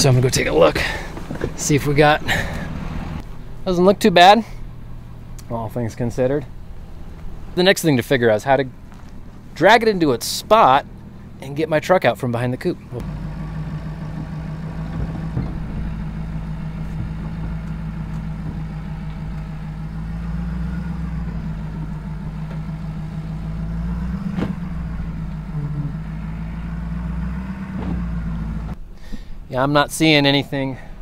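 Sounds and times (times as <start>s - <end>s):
pickup truck engine running: 0.0s - 31.0s.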